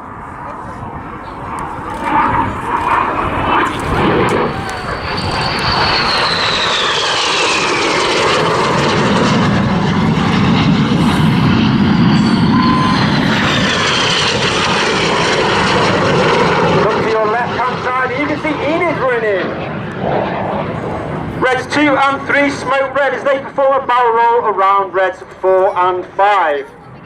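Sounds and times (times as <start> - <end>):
jet aircraft roaring past: 0.0 - 27.0.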